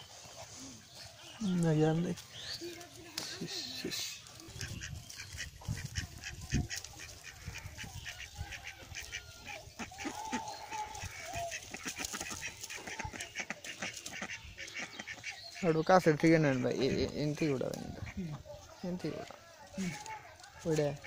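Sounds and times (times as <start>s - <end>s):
waterfowl calling: 0.0s - 21.0s.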